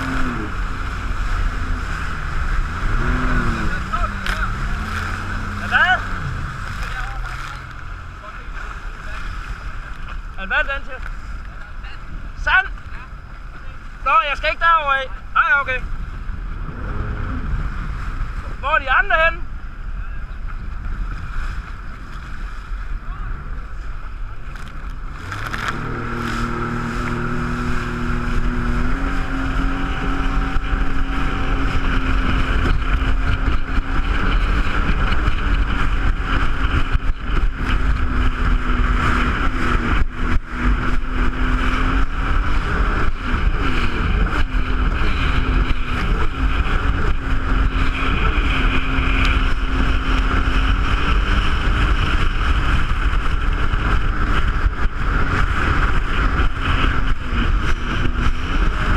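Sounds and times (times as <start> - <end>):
jet ski engine: 0.0 - 58.9
steady rushing noise: 0.0 - 58.9.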